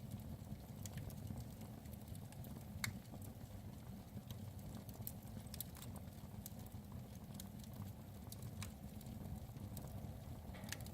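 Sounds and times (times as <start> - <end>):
log fire crackling and popping: 0.0 - 10.9.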